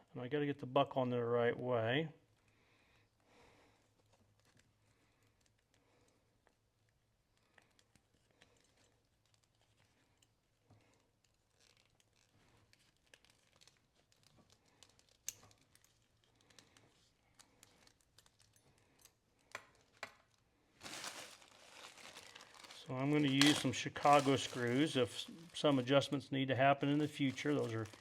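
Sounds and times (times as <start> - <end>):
leather belt rustling: 3.8 - 25.9, 27.0 - 28.0.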